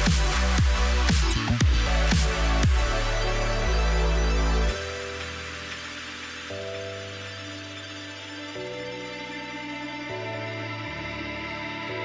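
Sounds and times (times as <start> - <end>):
background music chords: 0.0 - 12.0.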